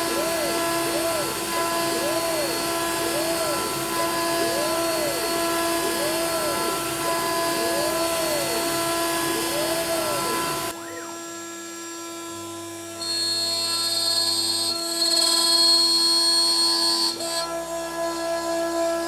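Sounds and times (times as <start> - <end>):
router spindle milling metal: 0.0 - 19.0.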